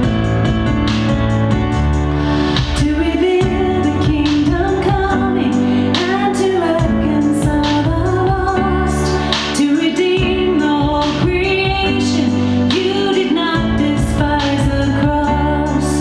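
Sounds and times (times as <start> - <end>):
instrumental accompaniment: 0.0 - 16.0
woman singing: 2.8 - 16.0.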